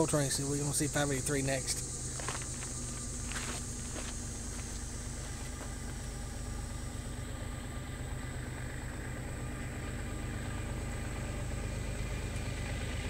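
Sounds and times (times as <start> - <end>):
diesel locomotive engines rumbling: 0.0 - 13.0.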